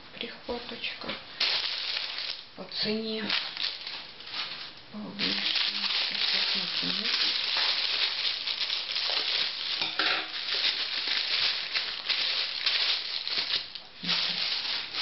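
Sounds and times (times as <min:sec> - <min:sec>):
plastic bag crinkling: 0:01.4 - 0:15.0.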